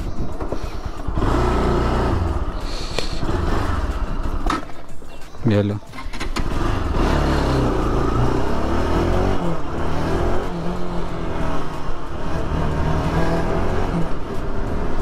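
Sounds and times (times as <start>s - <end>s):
motorcycle engine revving: 0.0s - 4.8s, 5.9s - 15.0s.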